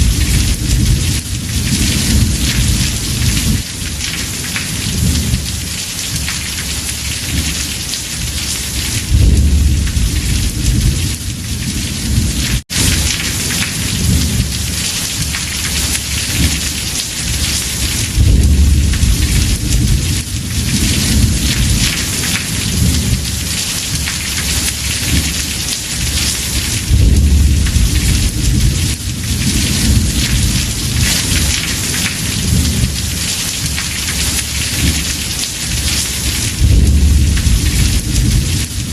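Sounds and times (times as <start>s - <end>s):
heavy rain on a roof: 0.0s - 38.9s
rolling thunder: 0.0s - 38.9s.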